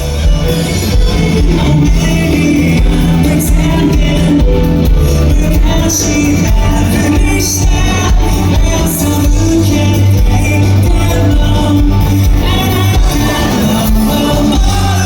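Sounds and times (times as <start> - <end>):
person singing: 0.0 - 15.0
rock band playing live: 0.0 - 15.0.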